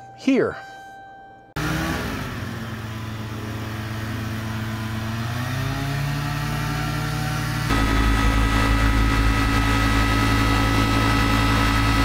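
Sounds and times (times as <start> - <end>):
two-stroke aircraft engine running: 1.6 - 12.0.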